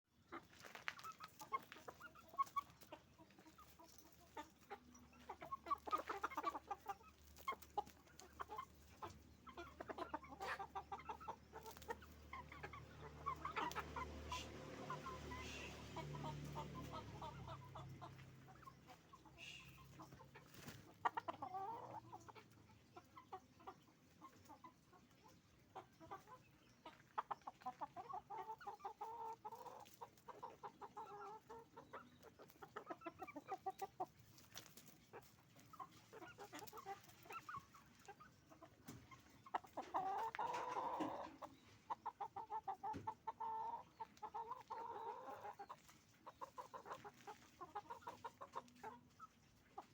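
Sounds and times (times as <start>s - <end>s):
chickens clucking: 0.1s - 49.9s.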